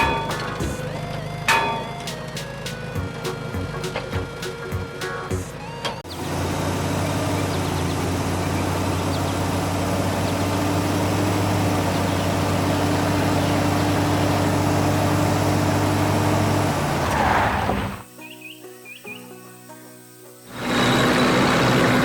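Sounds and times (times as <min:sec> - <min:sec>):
diesel engine running: 0:00.0 - 0:18.0, 0:20.5 - 0:22.0.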